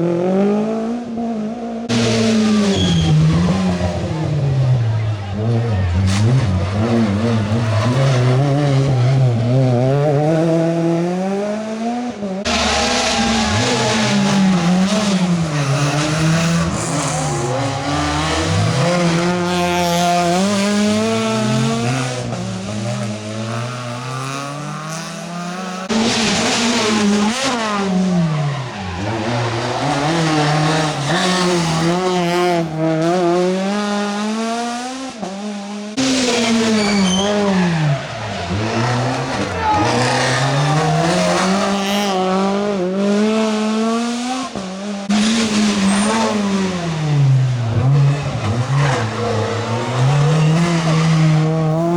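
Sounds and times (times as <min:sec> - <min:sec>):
rally car engines revving: 0:00.0 - 0:51.9.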